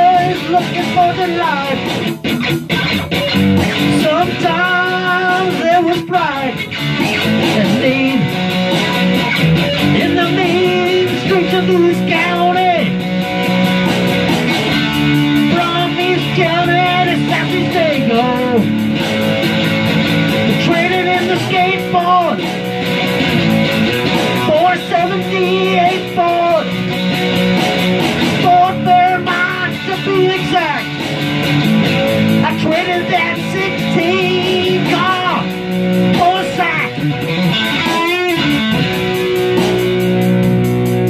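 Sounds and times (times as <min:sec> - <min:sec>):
electric guitar rock lead: 0:00.0 - 0:41.0
rock backing groove: 0:00.0 - 0:41.0.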